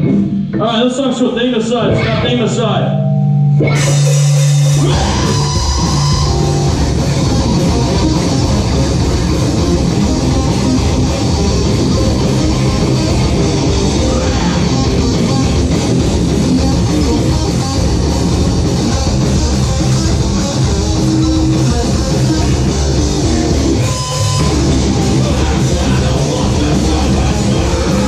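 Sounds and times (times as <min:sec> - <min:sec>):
live rock band playing: 0:00.0 - 0:28.0.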